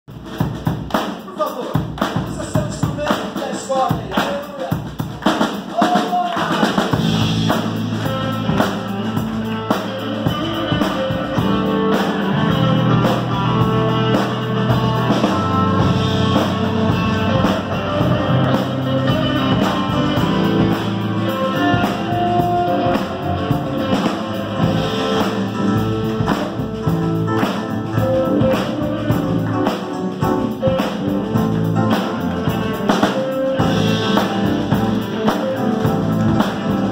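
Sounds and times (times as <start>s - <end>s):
drum kit with cymbals: 0.1s - 36.9s
electric guitar: 4.7s - 36.9s
keyboard chords: 6.2s - 36.9s
electric bass: 6.3s - 36.9s.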